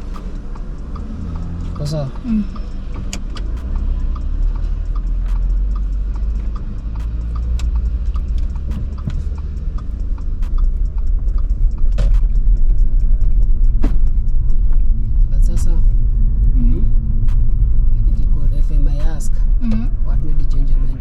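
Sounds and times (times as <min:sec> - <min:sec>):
car engine and road rumble: 0:00.0 - 0:21.0
light ticking: 0:00.0 - 0:21.0.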